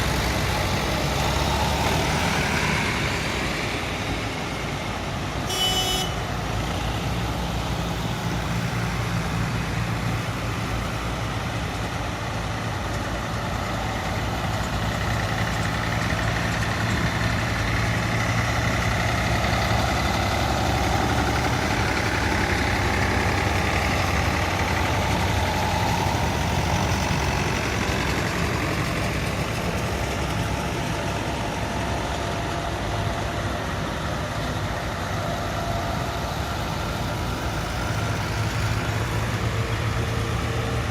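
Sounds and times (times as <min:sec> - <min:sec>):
vehicle engine humming: 0:00.0 - 0:40.9.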